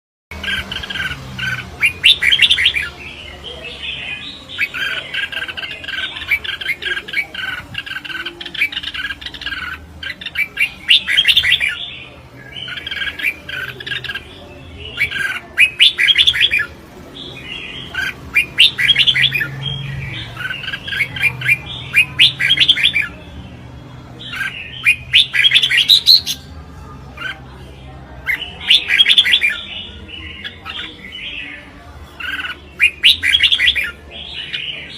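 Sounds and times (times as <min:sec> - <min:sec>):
bird chirping song: 0:00.3 - 0:34.9.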